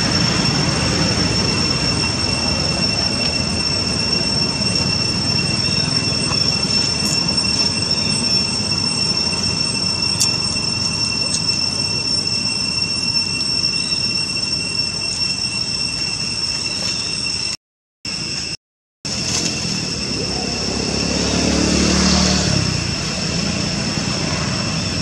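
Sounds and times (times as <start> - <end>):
cicada drone: 0.0 - 25.0.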